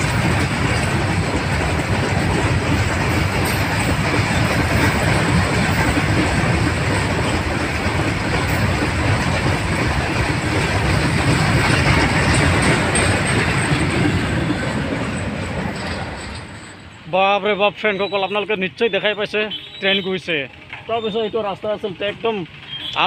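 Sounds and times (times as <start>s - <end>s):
train wheels running over rails: 0.0s - 23.0s.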